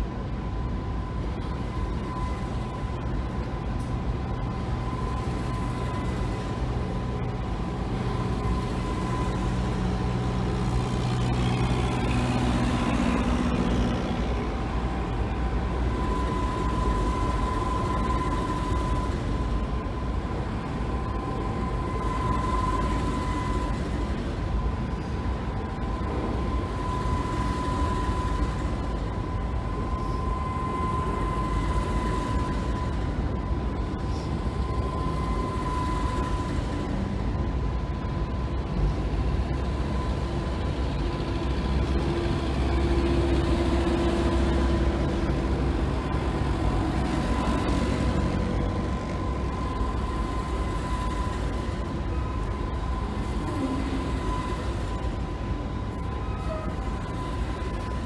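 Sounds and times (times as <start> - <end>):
high steady whine: 0.0 - 58.0
low drone: 0.0 - 58.0.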